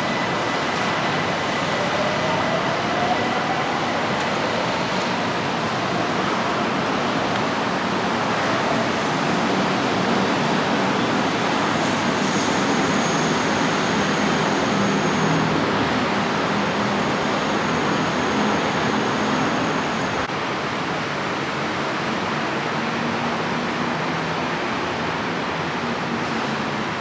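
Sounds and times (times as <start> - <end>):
electric train whine and hiss: 0.0 - 22.6
road traffic: 0.0 - 27.0
steady rushing noise: 0.0 - 27.0.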